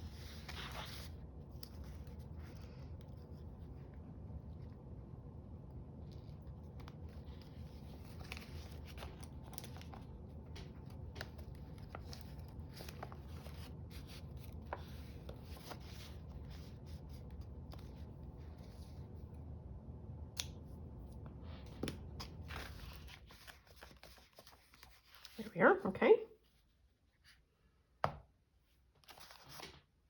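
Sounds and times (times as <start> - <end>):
low steady hum: 0.0 - 29.6.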